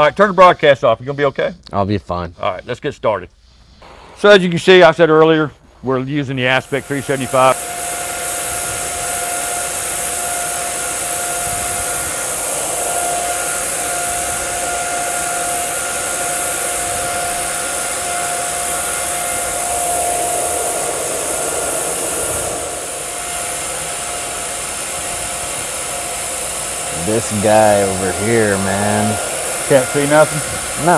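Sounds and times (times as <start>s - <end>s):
welding arc hissing: 3.6s - 30.9s.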